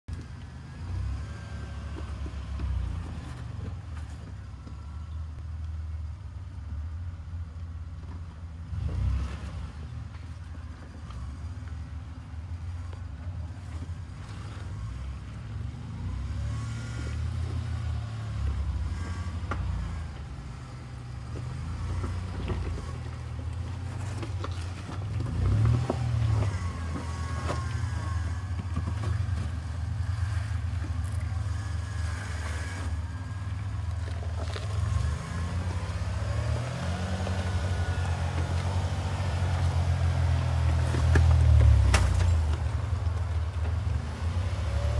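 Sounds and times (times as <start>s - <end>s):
truck engine running at low revs: 0.1s - 44.9s.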